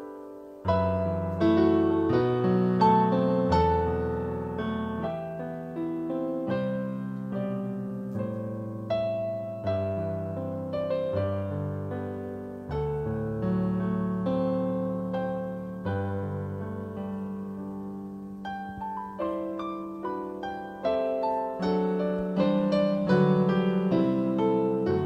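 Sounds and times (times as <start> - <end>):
slow piano chords and melody: 0.0 - 25.0.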